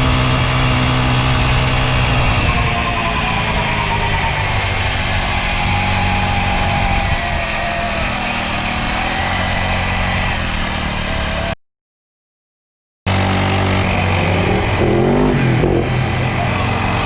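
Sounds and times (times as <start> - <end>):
small dirt bike engine running: 0.0 - 11.6, 13.1 - 17.0.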